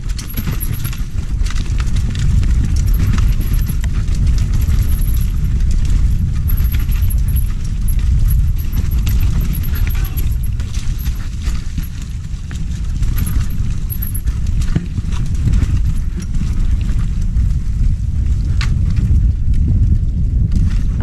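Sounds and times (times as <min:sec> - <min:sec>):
bike clattering and rattling: 0:00.0 - 0:21.0
tyre noise on dirt: 0:00.0 - 0:21.0
wind rumble on microphone: 0:00.0 - 0:21.0.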